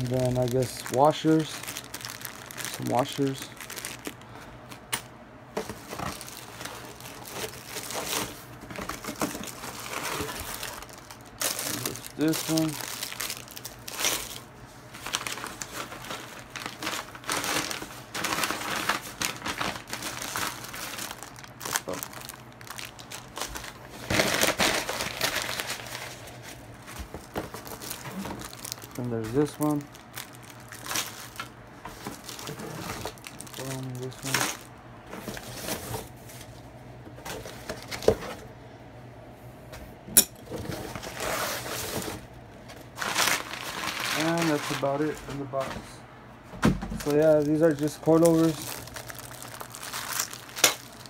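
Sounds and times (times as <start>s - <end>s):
packing paper crinkling: 0.0s - 4.8s, 5.6s - 36.6s, 40.6s - 45.7s, 47.0s - 51.0s.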